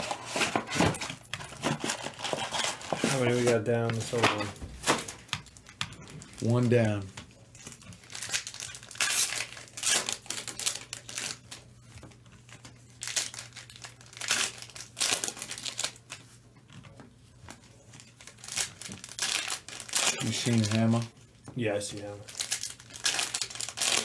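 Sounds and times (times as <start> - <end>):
foil wrappers crinkling and tearing: 0.0 - 16.4, 17.5 - 24.0.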